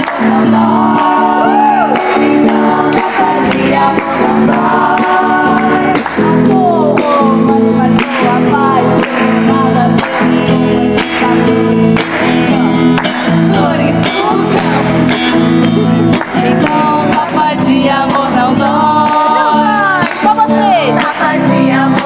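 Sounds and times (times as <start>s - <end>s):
acoustic guitar strumming: 0.0s - 22.0s
person singing: 0.0s - 22.0s.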